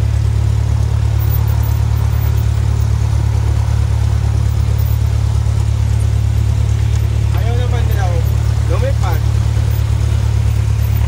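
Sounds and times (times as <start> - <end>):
airplane engine humming: 0.0 - 11.0.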